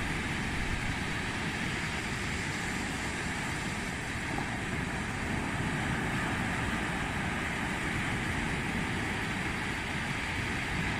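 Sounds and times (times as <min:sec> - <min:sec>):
surf breaking on beach: 0:00.0 - 0:10.9.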